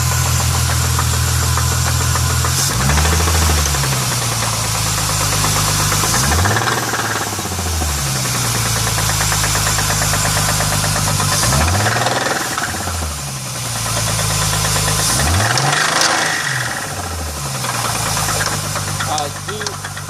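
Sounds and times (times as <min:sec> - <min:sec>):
car engine revving with knock: 0:00.0 - 0:20.0.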